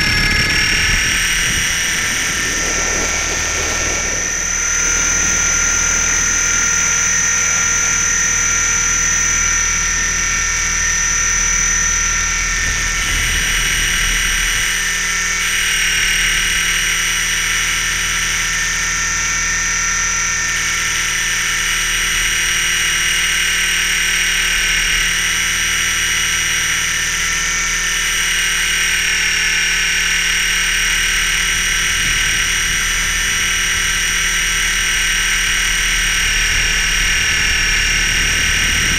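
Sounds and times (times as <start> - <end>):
electric motor whine: 0.0 - 38.9
helicopter rotor hum: 0.0 - 38.9.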